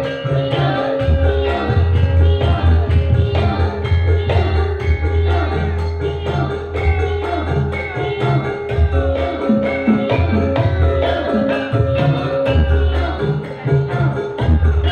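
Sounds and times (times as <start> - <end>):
held melody line: 0.0 - 14.9
percussion steady beat: 0.0 - 14.9
heavy bass: 1.0 - 14.9.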